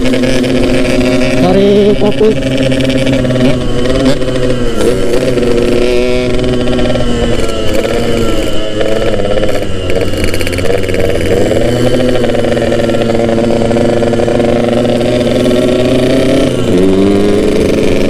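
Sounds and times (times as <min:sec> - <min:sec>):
two-stroke motorcycle engine: 0:00.0 - 0:18.0.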